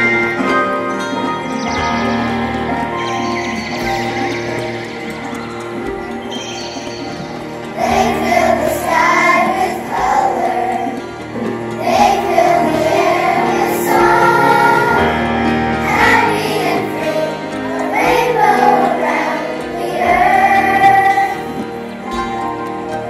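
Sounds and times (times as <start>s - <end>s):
children's choir singing: 0.0s - 23.0s
instrumental accompaniment: 0.0s - 23.0s.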